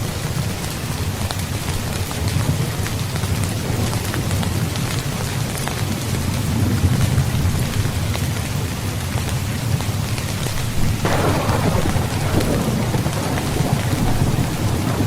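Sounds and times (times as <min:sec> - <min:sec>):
heavy rain hissing and pattering: 0:00.0 - 0:15.0
low rumble of thunder: 0:01.0 - 0:15.0
crackling peal of thunder: 0:02.1 - 0:15.0.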